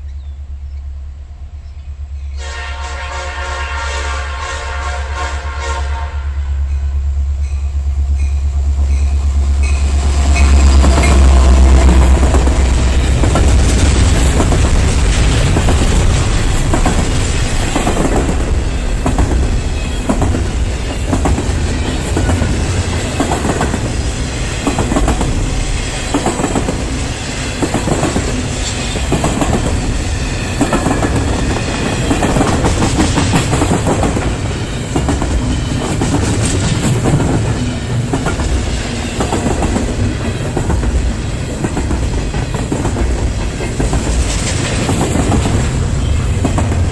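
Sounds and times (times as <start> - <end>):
diesel locomotive engine rumble: 0.0 - 46.9
train wheels clicking over rail joints: 7.3 - 46.9.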